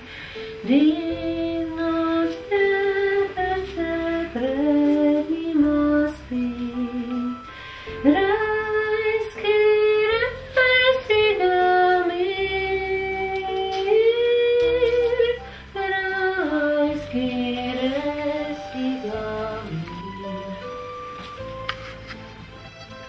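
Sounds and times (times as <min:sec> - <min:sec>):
soft accompaniment: 0:00.0 - 0:23.0
woman singing slow melody: 0:00.4 - 0:21.5.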